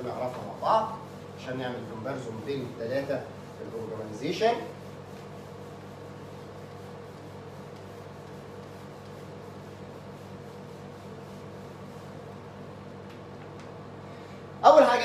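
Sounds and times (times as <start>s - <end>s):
whiteboard eraser wiping: 0.0s - 12.8s
steady low hum: 0.0s - 15.0s.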